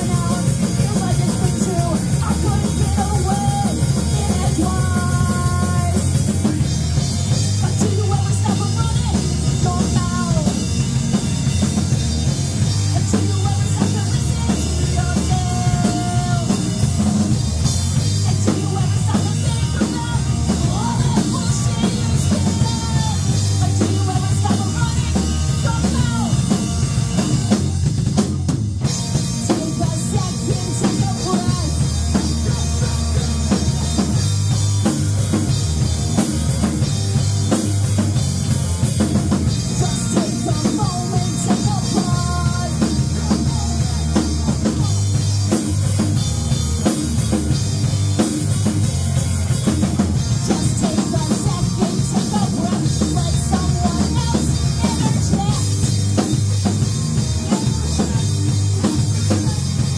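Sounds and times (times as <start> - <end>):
driving drum kit: 0.0 - 59.9
electric guitars: 0.0 - 59.9
live rock band playing: 0.0 - 59.9.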